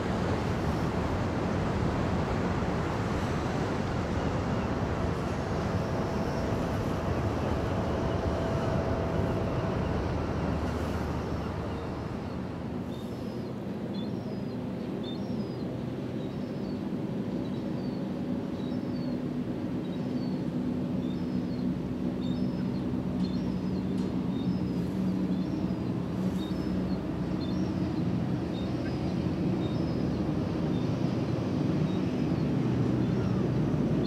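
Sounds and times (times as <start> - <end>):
ship engines rumbling: 0.0 - 14.8, 20.4 - 34.0.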